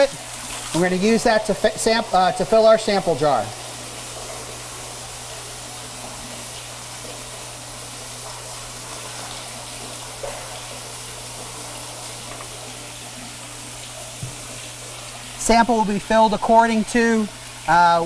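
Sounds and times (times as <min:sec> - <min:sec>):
water gushing from a pipe: 0:00.0 - 0:18.0.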